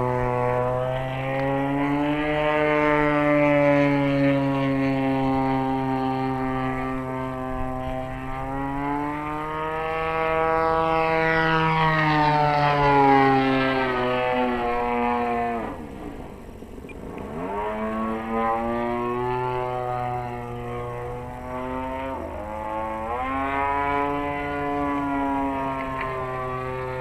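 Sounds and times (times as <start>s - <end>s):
model plane engine running: 0.0s - 27.0s.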